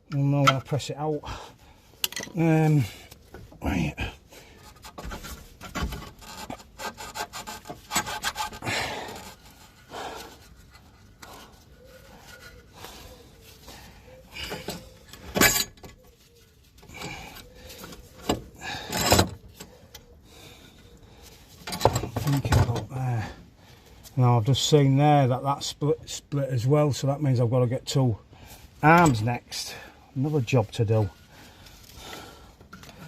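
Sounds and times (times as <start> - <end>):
hand tools scraping and clinking: 0.0 - 1.2, 2.0 - 23.0, 28.5 - 33.0.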